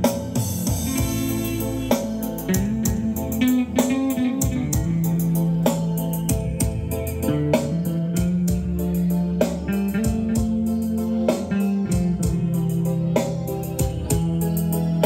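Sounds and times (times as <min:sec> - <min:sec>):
bass line: 0:00.0 - 0:15.0
electric guitar through amplifier: 0:00.0 - 0:15.0
steady beat: 0:00.0 - 0:15.0.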